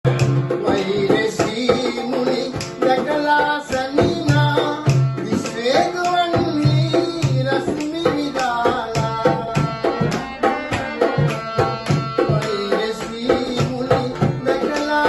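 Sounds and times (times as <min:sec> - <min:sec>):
hand-drum strokes: 0:00.1 - 0:15.0.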